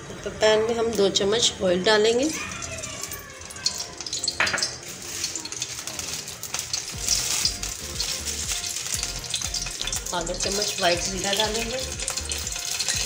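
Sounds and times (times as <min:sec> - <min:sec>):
oil sizzling in a frying pan: 0:00.4 - 0:13.0.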